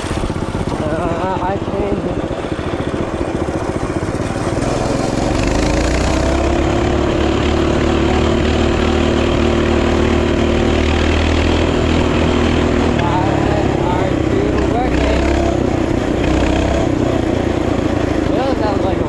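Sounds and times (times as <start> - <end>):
small engine revving: 0.0 - 19.0.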